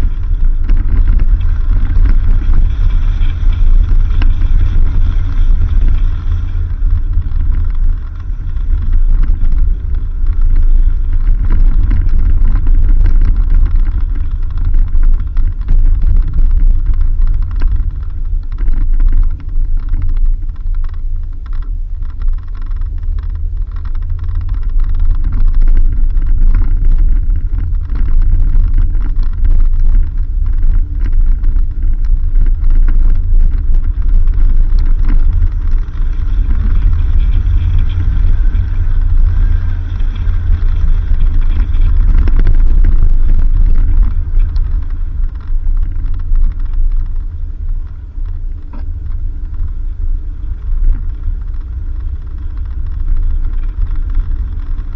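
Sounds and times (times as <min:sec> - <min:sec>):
engine and road rumble: 0:00.0 - 0:54.9.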